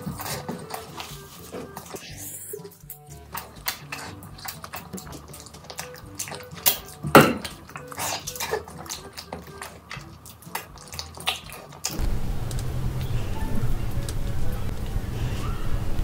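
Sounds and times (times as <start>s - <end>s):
wet chewing and smacking: 0.0s - 15.6s.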